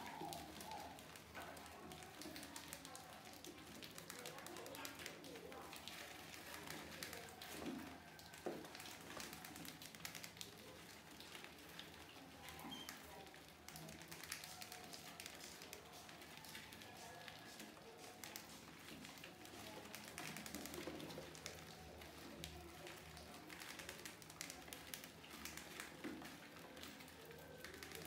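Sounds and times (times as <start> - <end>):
mouse claws clicking and scratching: 0.0 - 28.0.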